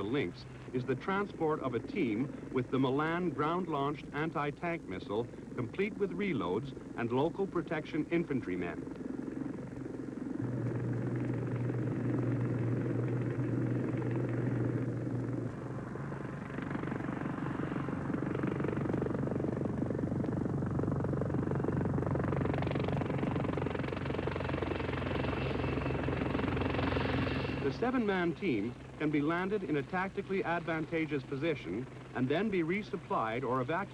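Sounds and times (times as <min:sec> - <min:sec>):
helicopter rotors beating: 0:00.0 - 0:33.9
turbine whine: 0:00.0 - 0:33.9.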